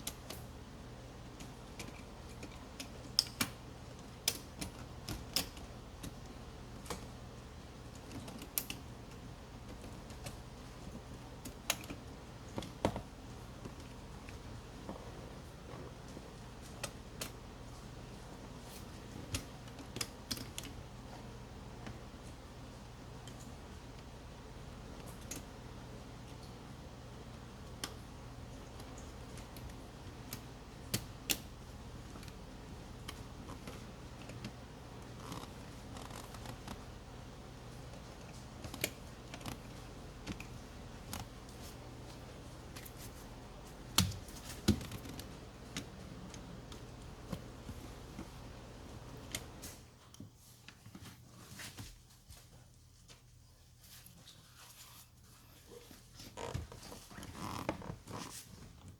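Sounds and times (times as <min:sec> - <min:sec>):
steady low hum: 0:00.0 - 0:50.1.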